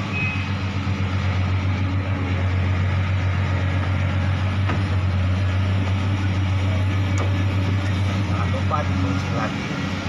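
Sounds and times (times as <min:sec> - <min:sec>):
large engine idling: 0:00.0 - 0:10.0.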